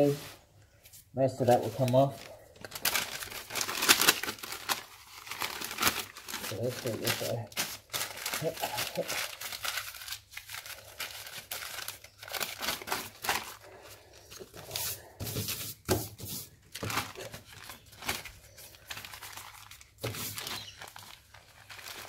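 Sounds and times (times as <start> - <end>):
crumpled sheet crinkling: 1.4 - 22.0.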